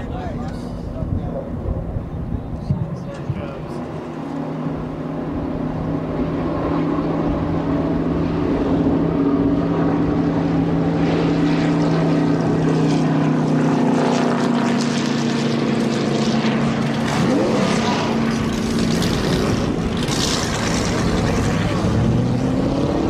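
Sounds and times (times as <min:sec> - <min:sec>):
pitched engine drone: 0:00.0 - 0:23.0.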